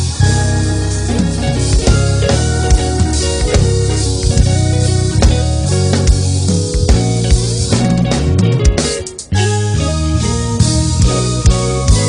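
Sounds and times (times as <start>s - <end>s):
bass guitar: 0.0s - 12.0s
drum kit beat: 0.0s - 12.0s
electric guitar chords: 0.0s - 12.0s.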